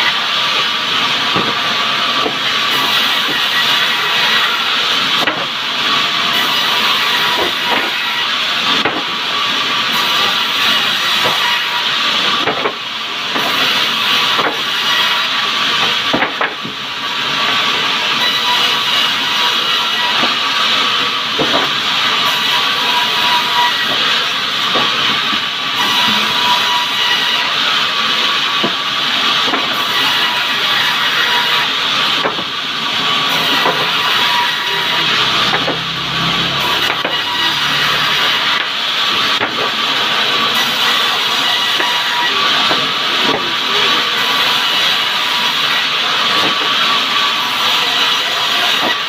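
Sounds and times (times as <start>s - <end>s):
saw blade cutting log: 0.0s - 49.0s.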